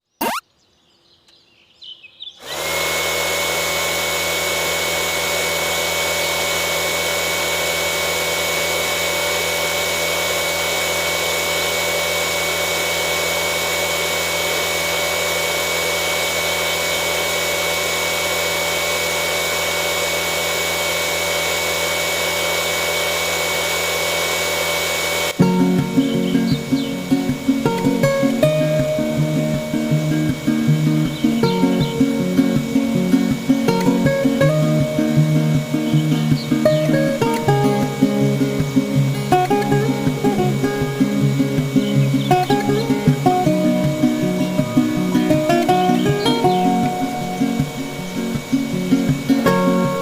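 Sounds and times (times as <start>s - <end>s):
electric motor tool running: 2.4s - 50.0s.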